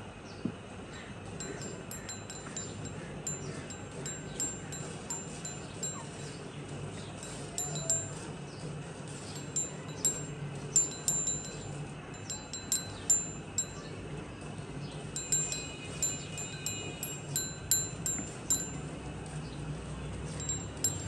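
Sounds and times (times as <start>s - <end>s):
steady low hum: 0.0s - 19.2s
small metal bells tinkling: 0.9s - 6.4s, 7.0s - 8.4s, 9.1s - 14.1s, 15.1s - 19.4s, 20.3s - 21.0s.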